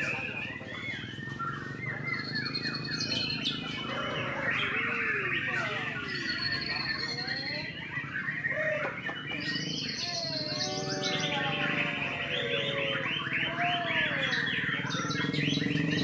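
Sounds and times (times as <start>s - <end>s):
songbird whistled song: 0.0s - 16.0s.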